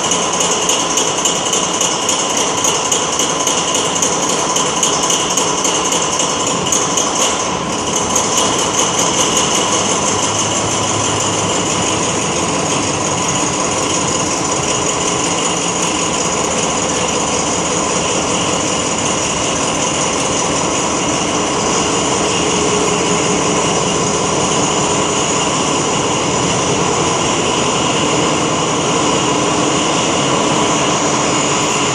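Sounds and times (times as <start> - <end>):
diesel locomotive engine droning: 0.0 - 31.9
rhythmic clatter: 0.0 - 31.9
high whine: 6.2 - 31.9.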